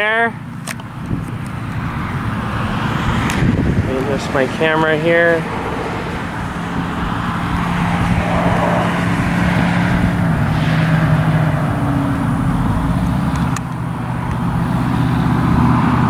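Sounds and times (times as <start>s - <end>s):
low engine drone: 0.0s - 16.0s
outdoor noise: 0.0s - 16.0s.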